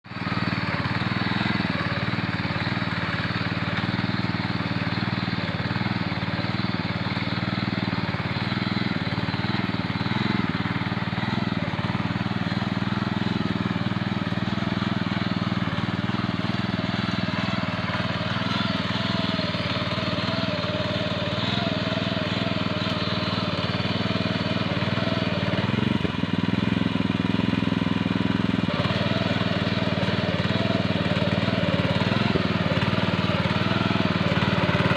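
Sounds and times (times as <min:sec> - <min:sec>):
small tractor engine running: 0:00.0 - 0:34.9.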